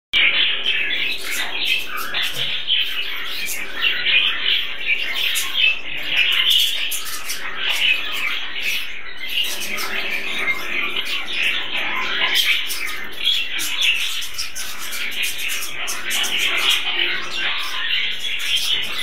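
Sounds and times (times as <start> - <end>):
budgerigars chattering: 0.2 - 19.0.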